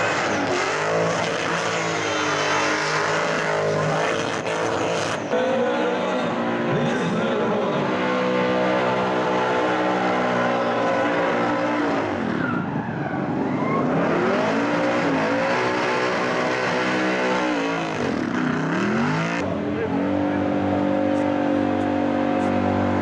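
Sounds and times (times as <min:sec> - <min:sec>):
car engine revving high: 0:00.0 - 0:23.0.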